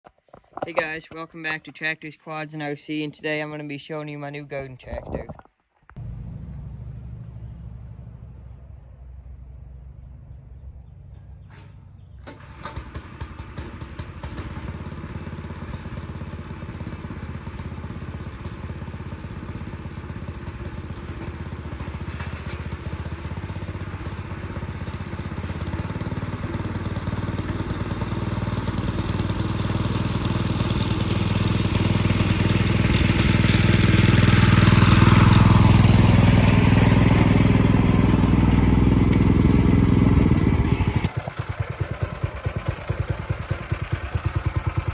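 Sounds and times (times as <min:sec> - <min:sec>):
small tractor engine running: 0:06.0 - 0:09.2, 0:11.4 - 0:44.9.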